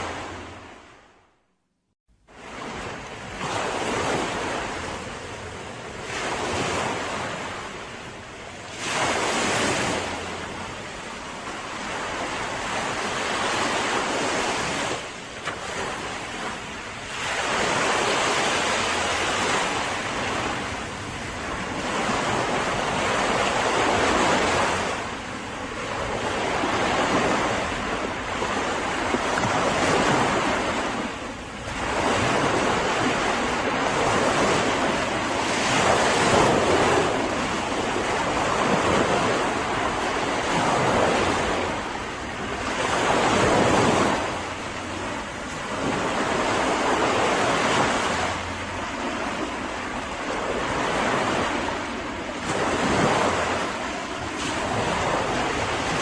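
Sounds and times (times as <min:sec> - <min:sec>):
sea waves breaking on beach: 0:00.0 - 0:01.1, 0:02.3 - 0:56.0.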